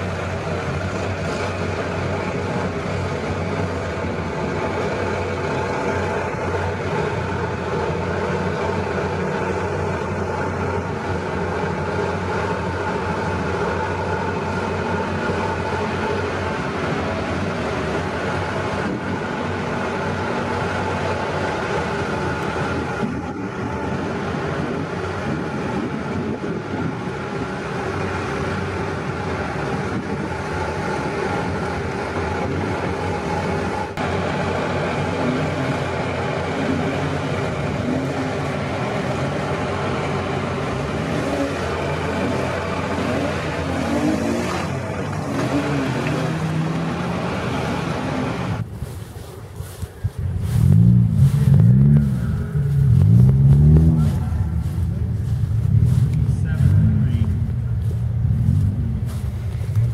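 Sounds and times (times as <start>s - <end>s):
car engine running under load: 0.0s - 59.9s
tyres churning mud: 0.0s - 59.9s.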